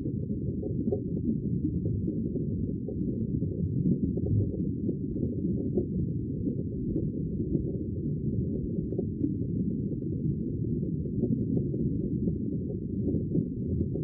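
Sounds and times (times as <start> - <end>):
sea water low rumble: 0.0 - 14.0.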